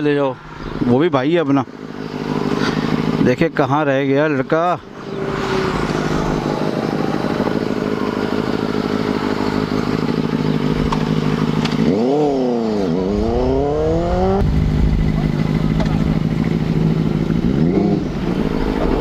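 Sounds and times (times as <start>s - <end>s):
motorbike engine revving: 1.6s - 19.0s.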